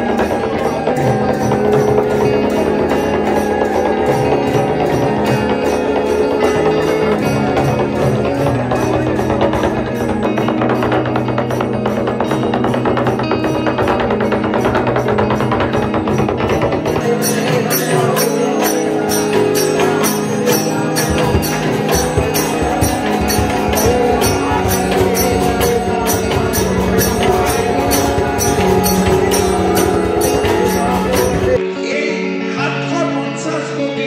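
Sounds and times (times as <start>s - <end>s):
barrel drums and metal percussion: 0.0s - 31.6s
chanted tones: 0.0s - 32.5s.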